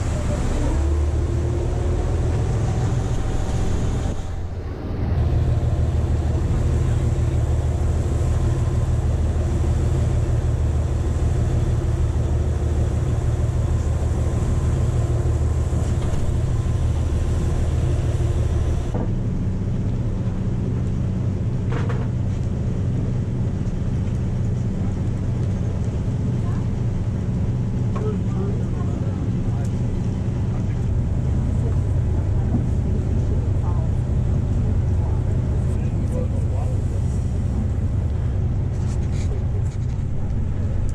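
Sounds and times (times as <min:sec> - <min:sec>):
boat engine droning: 0:00.0 - 0:40.9
rush of boat wake: 0:00.0 - 0:40.9.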